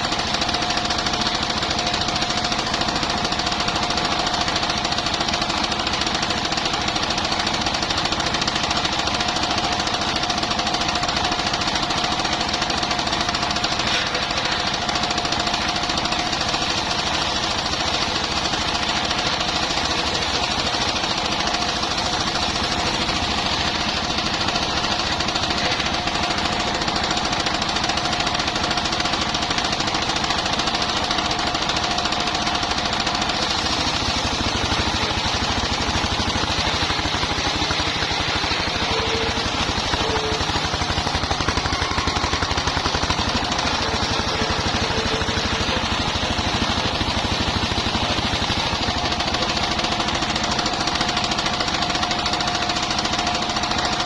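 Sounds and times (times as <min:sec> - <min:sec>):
saw blade whine: 0:00.0 - 0:54.0
sawmill engine firing: 0:00.0 - 0:54.0.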